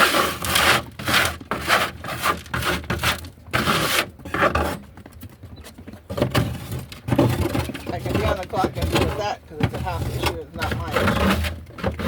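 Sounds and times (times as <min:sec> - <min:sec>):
rough scraping strokes: 0:00.0 - 0:04.9, 0:06.4 - 0:12.0.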